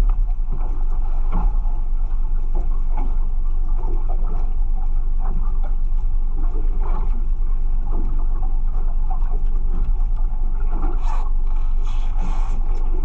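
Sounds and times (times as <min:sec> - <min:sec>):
boat low rumble: 0:00.0 - 0:13.0.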